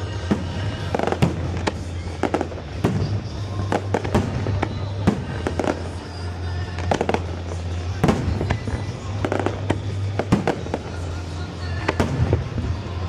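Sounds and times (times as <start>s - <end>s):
fireworks bangs and crackles: 0.0s - 13.0s
music playing: 0.0s - 13.0s.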